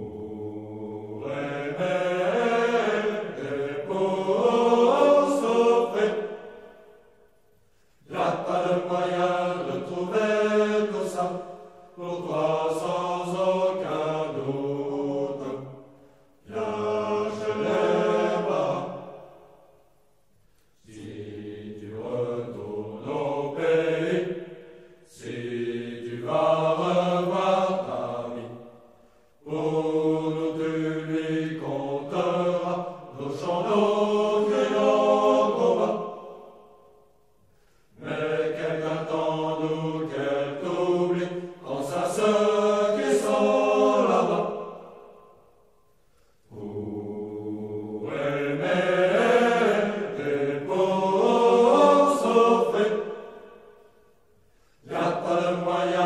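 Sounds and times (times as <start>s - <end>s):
choral chanting: 0.0s - 20.0s, 20.7s - 56.0s.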